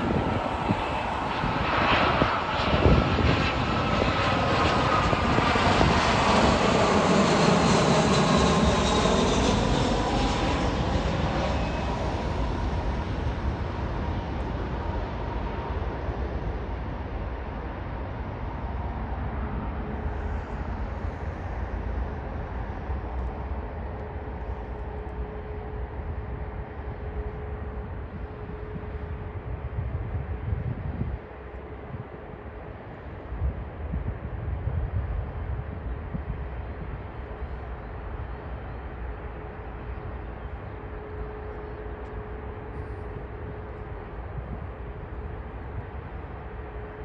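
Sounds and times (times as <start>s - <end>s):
wind buffeting microphone: 0.0s - 25.1s, 25.8s - 47.0s
jet airliner engines humming: 0.0s - 47.0s.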